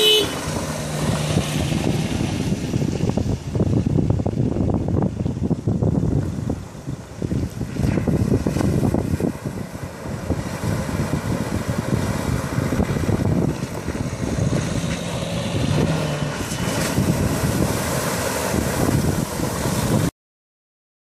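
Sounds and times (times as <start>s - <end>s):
tyres churning through water: 0.0s - 20.1s
wind buffeting microphone: 0.4s - 20.1s.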